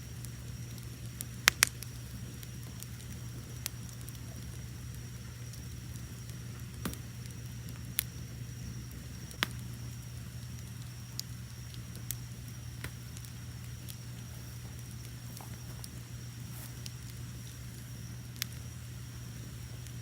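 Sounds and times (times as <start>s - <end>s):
crickets chirping: 0.0s - 20.0s
wood fire crackling and popping: 0.0s - 20.0s.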